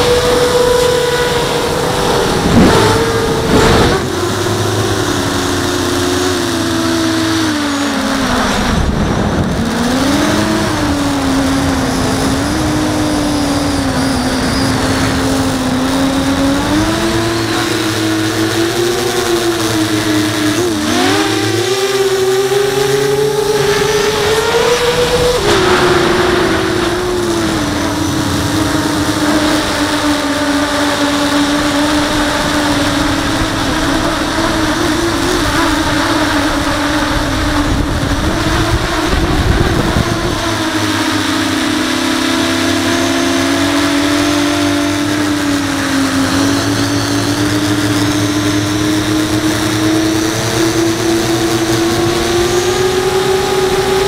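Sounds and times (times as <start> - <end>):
drone motors whining: 0.0 - 54.0
wind rumbling on microphone: 0.0 - 54.0.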